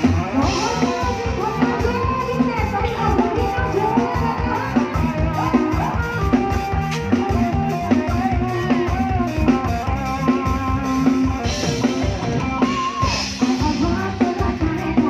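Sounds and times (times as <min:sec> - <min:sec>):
drum kit beat: 0:00.0 - 0:15.0
live band playing: 0:00.0 - 0:15.0.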